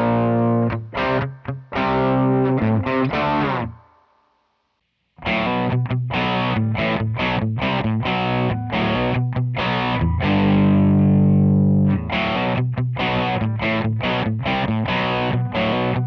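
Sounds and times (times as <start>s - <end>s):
distorted electric guitar chords: 0.0s - 4.1s, 5.2s - 16.0s.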